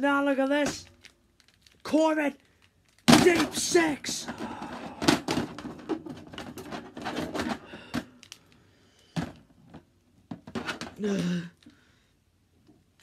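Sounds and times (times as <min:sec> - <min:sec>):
plastic figures clicking and knocking: 0:00.5 - 0:08.6, 0:09.2 - 0:11.8.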